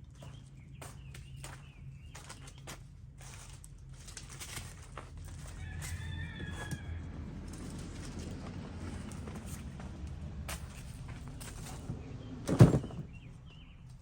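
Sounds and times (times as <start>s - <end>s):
scuffing steps: 0.1s - 11.9s.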